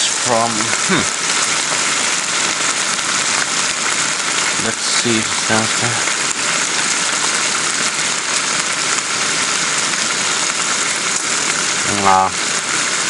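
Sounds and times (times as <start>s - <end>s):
pork sizzling in a pan: 0.0s - 13.0s.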